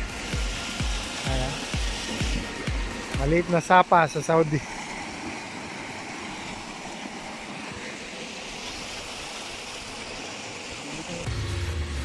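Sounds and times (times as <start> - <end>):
stream running over stones: 0.0 - 11.3.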